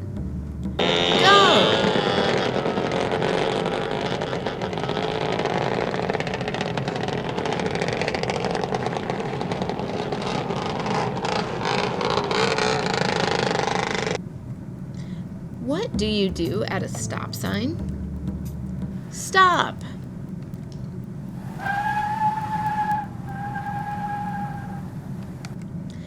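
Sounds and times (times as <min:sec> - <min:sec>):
vehicles driving and accelerating: 0:00.0 - 0:26.0.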